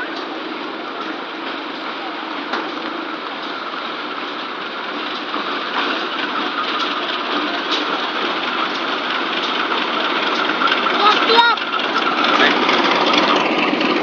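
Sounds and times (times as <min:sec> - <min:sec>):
diesel locomotive passing: 0:00.0 - 0:14.0.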